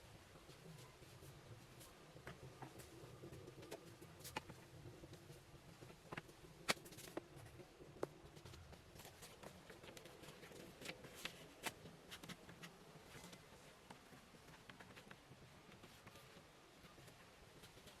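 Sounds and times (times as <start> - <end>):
faint clicks and taps: 0.1 - 18.0.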